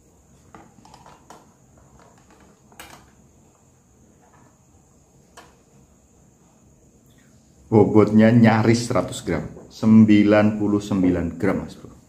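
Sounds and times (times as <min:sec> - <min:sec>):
faint steady high hiss: 0:00.0 - 0:12.0.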